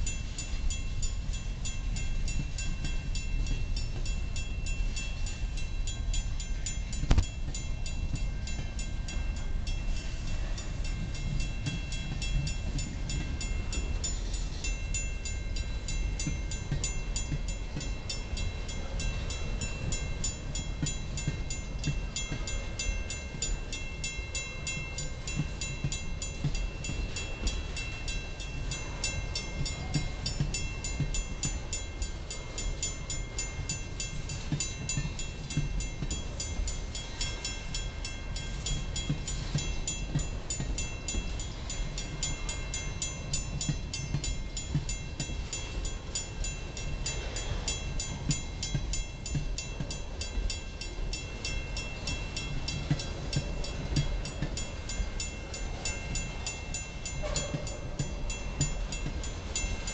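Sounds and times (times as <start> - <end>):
crossing bell ringing: 0.0 - 59.9
train wheels rumbling and clattering: 0.0 - 59.9.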